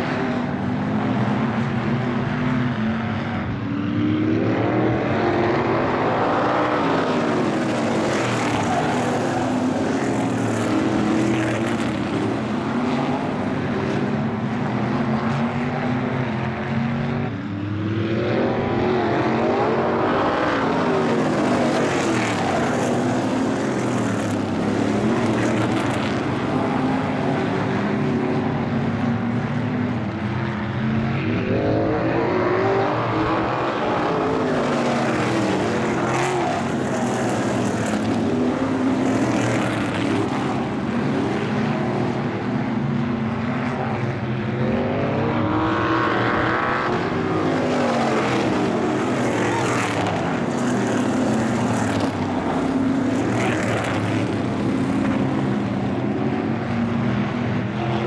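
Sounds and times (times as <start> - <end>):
racing car engines at speed: 0.0 - 58.0.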